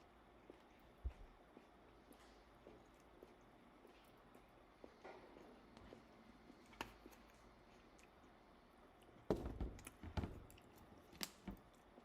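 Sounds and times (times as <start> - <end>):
chewing: 0.4 - 12.0.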